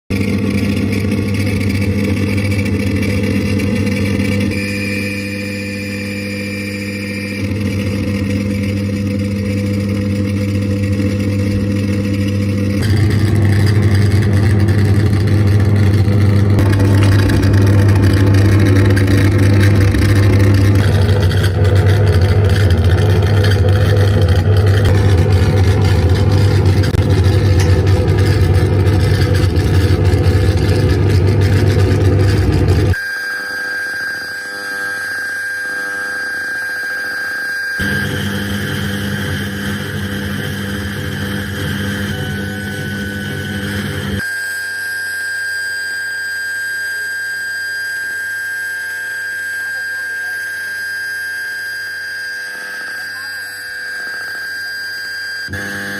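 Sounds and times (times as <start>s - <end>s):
harsh noise drone: 0.1s - 33.1s, 34.0s - 45.8s.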